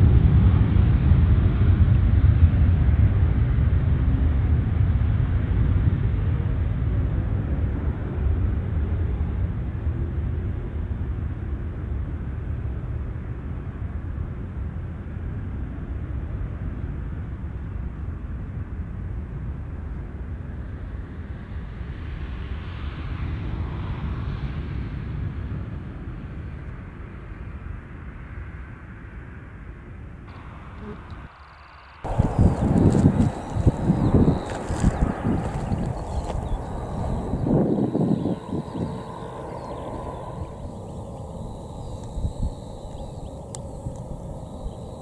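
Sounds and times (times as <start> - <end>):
jet engines rumbling at takeoff: 0.0 - 45.0.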